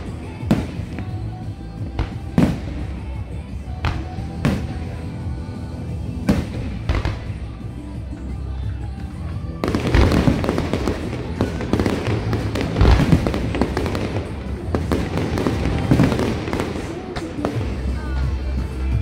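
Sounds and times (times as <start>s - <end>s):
fireworks bangs and crackling: 0.0s - 19.0s
music: 0.0s - 19.0s.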